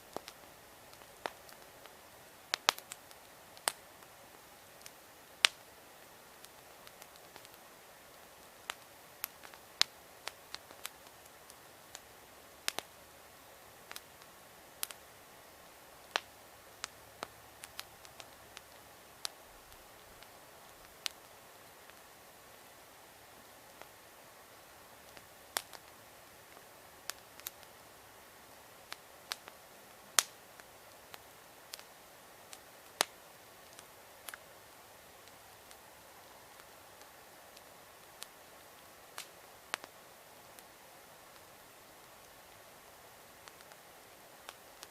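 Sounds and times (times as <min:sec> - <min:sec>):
campfire crackling: 0:00.0 - 0:44.9.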